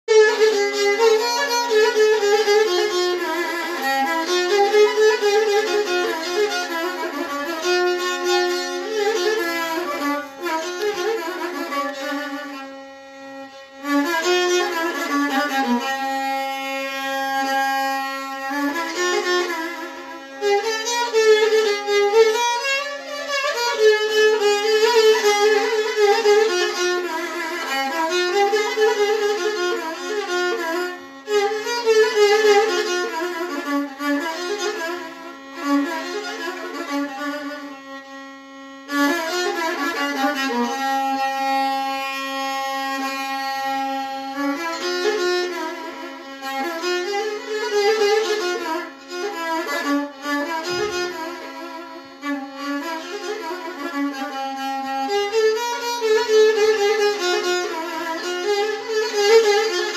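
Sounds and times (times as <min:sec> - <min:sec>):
solo violin melody: 0:00.0 - 0:59.9.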